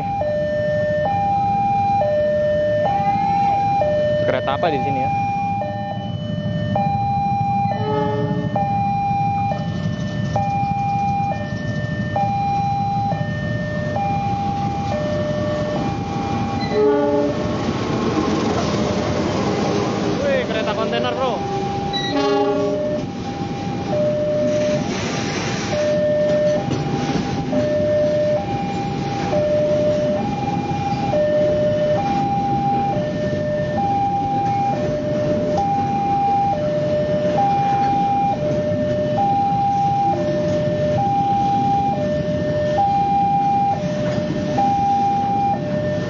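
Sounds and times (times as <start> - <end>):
crossing alarm alternating tones: 0.0 - 17.9, 20.2 - 46.0
train wheels rumbling on rails: 6.3 - 46.0.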